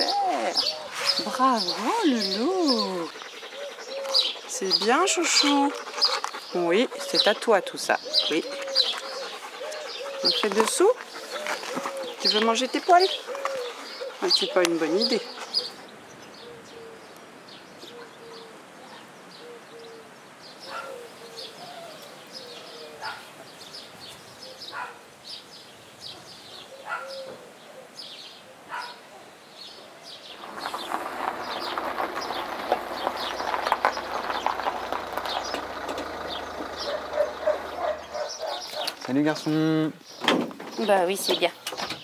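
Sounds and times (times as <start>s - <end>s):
pigeons cooing: 0.0s - 17.1s, 17.8s - 23.5s, 24.3s - 25.0s, 26.1s - 29.4s, 30.0s - 39.6s
small birds chirping: 0.0s - 42.0s.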